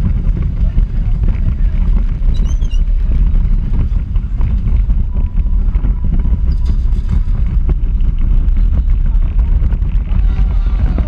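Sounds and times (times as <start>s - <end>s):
electric kart rumbling on asphalt: 0.0s - 11.0s
wind buffeting microphone: 0.0s - 11.0s.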